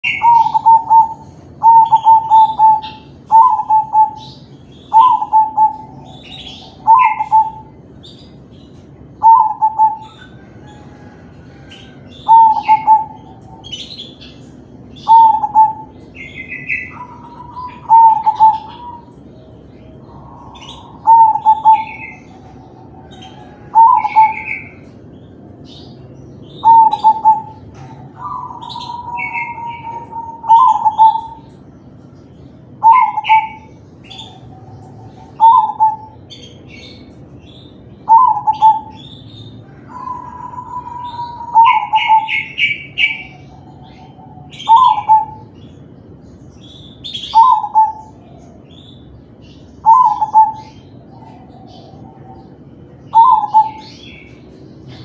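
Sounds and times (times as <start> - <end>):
dove cooing: 0.0 - 31.6, 32.2 - 45.9, 46.6 - 55.0.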